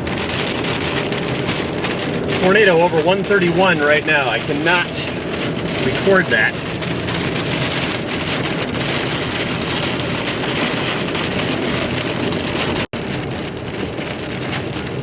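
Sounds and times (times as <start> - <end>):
rain on car: 0.0 - 15.0
road noise inside car: 0.0 - 15.0.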